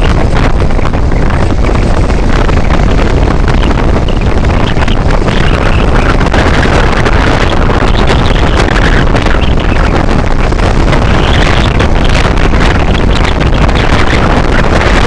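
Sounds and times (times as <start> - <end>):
road noise: 0.0 - 15.0
vehicle engine: 0.0 - 15.0
wind rushing over microphone: 0.0 - 15.0.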